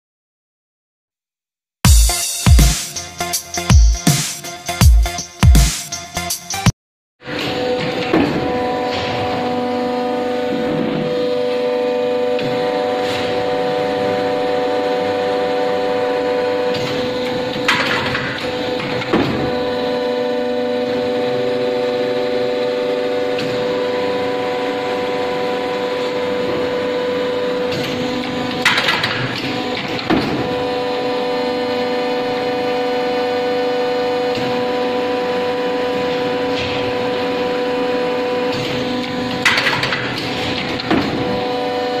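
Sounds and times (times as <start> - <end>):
machine motor whining hum: 7.2 - 42.0.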